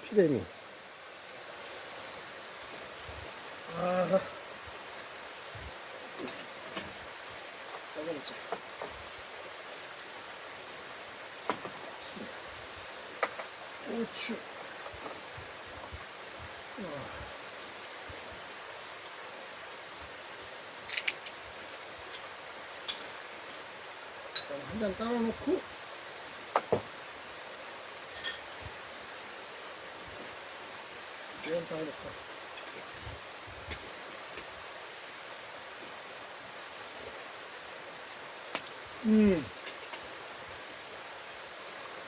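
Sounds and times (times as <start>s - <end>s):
high insect trill: 0.0s - 42.0s
mountain stream rushing: 0.0s - 42.0s.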